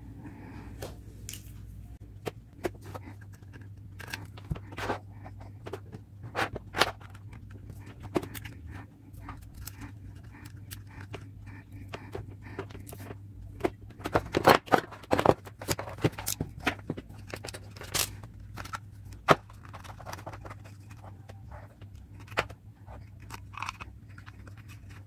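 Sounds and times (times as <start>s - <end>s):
steady low hum: 0.0s - 25.0s
clicks taps and scrapes of parts: 2.2s - 25.0s.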